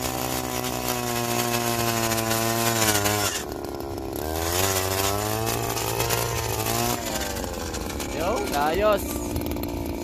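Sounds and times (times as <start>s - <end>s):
ice auger engine boring: 0.0s - 10.0s.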